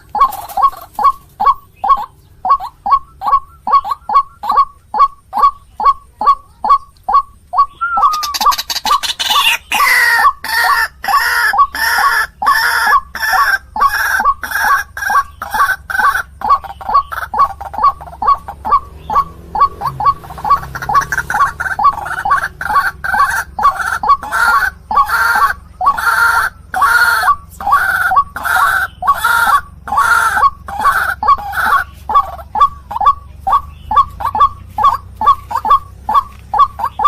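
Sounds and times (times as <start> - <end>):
harsh overlapping bird calls: 0.0 - 37.0
waterhen croaking calls: 0.0 - 37.0.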